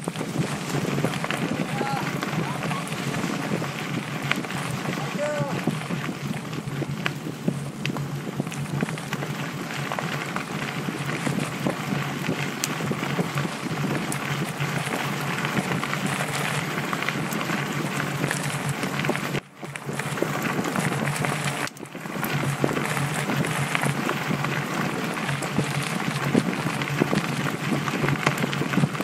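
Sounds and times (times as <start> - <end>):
bike rattling clicks: 0.0 - 28.9
tyres on gravel: 0.0 - 29.0
wind on microphone: 0.0 - 29.0.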